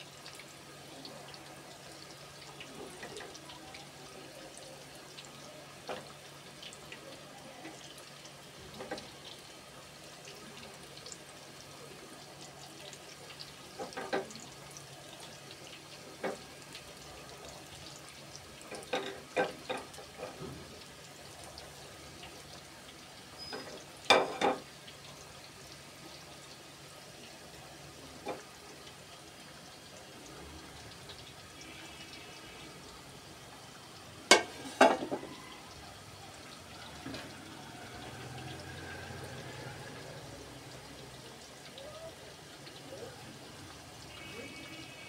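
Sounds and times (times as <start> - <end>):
deep-frying sizzle in oil: 0.0 - 45.0.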